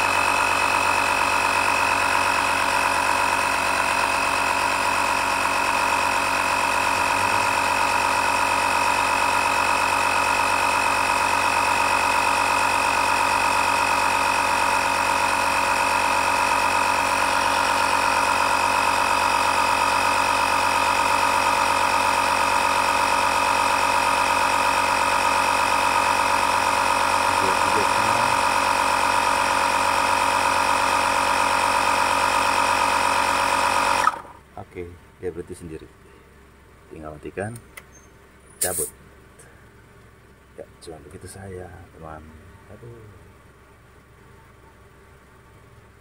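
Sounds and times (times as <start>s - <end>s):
air compressor whining: 0.0s - 44.2s.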